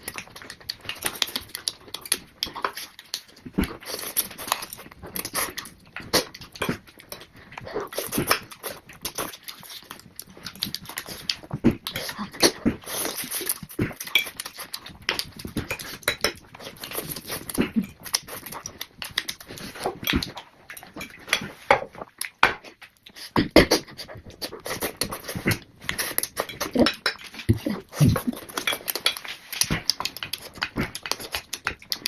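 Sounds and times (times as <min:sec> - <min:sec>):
noodles being slurped and chewed: 0:00.0 - 0:32.0.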